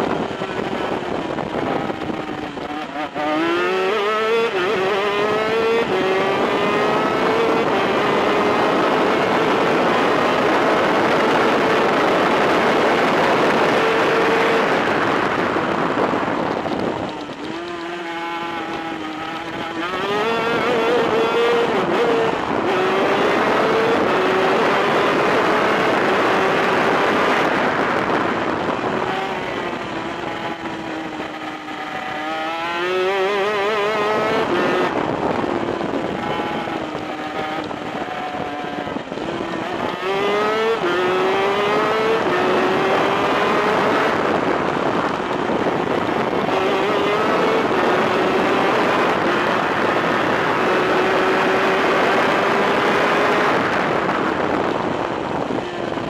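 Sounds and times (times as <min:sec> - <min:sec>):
two-stroke kart engine at high revs: 0:00.0 - 0:56.0.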